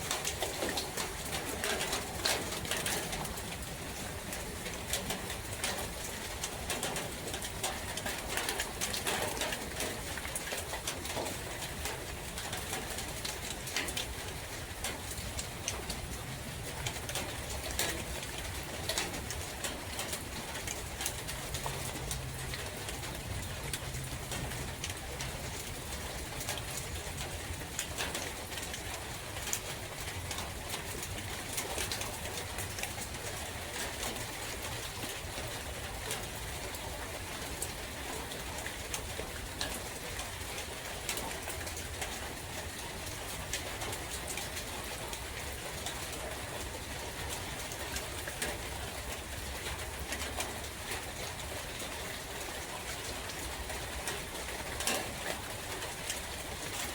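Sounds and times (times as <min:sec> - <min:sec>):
rain pattering in a forest: 0:00.0 - 0:56.9.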